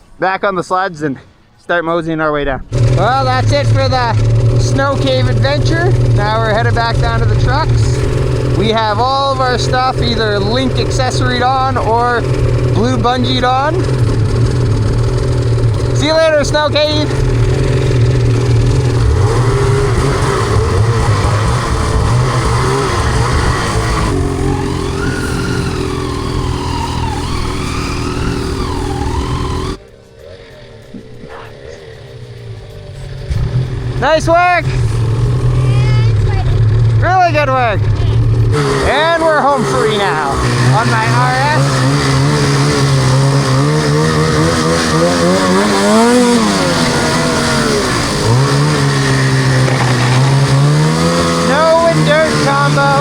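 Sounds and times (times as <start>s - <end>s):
snowmobile engine running: 2.7s - 53.0s.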